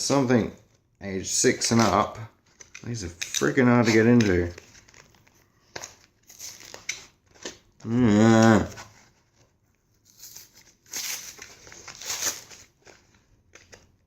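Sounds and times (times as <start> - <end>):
plastic packaging crackling: 1.6 - 7.9, 8.5 - 14.0.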